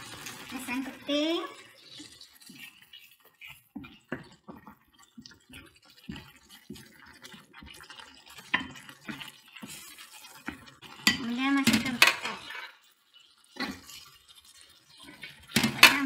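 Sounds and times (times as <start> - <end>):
wooden spoon stirring thick sauce: 0.0 - 16.0.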